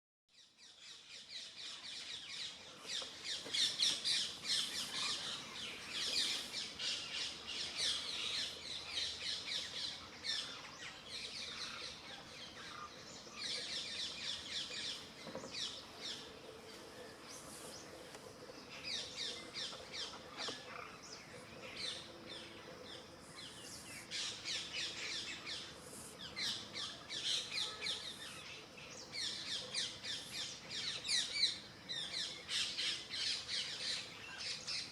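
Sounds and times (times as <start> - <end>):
birds chirping in chorus: 0.4 - 34.9.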